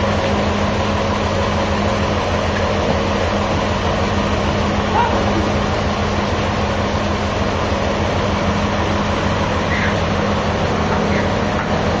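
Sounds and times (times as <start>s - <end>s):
machine engine humming: 0.0s - 12.0s
noisy wash: 0.0s - 12.0s.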